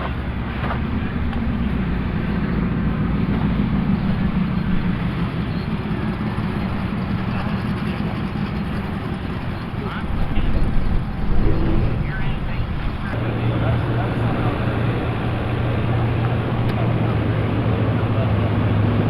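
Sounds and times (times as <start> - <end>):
road noise: 0.0 - 19.0
vehicle engine drone: 0.0 - 19.0.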